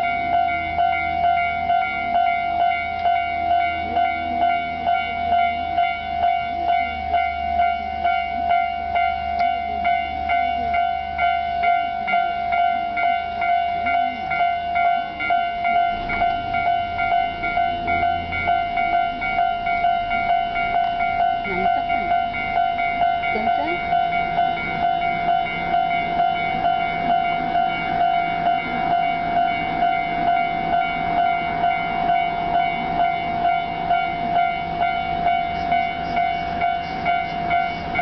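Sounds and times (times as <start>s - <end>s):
level crossing alarm ringing: 0.0s - 38.0s.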